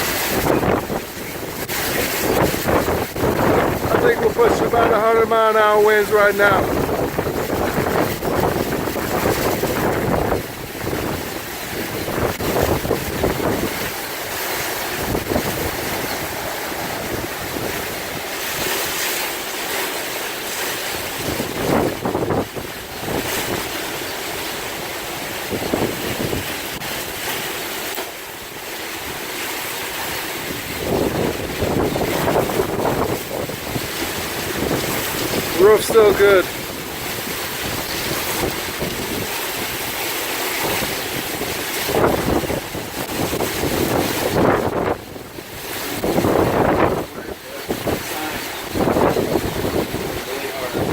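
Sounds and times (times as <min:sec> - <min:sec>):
strong wind buffeting microphone: 0:00.0 - 0:50.9.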